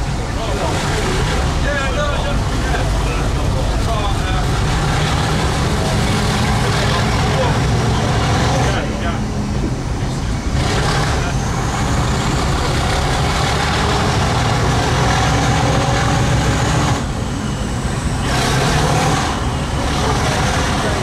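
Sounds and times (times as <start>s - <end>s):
diesel locomotive engine throb: 0.0s - 21.0s.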